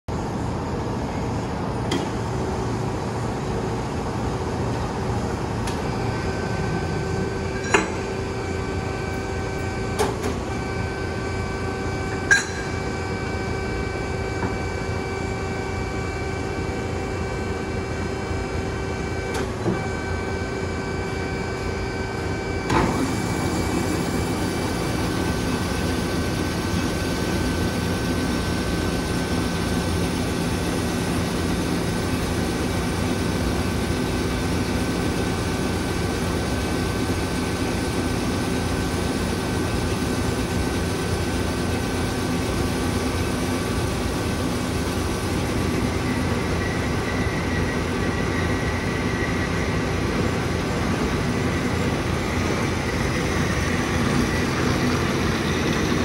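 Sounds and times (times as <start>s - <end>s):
band saw motor hum and whine: 0.1s - 56.0s.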